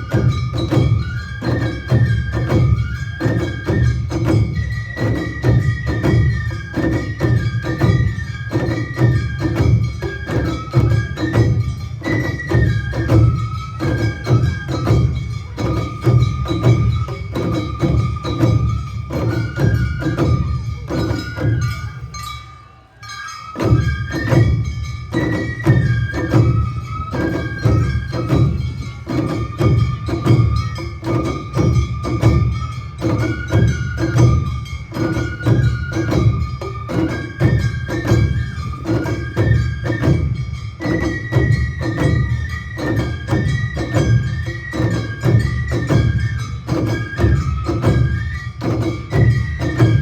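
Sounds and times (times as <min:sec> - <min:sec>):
flute melody: 0:00.0 - 0:50.0
taiko drums beating: 0:00.0 - 0:50.0.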